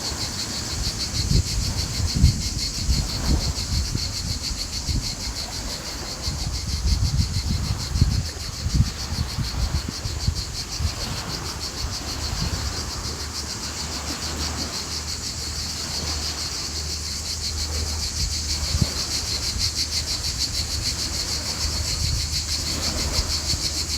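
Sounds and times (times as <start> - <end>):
pulsing insect chorus: 0.0 - 23.9
sea rumble: 0.0 - 23.9
wind: 0.0 - 23.9.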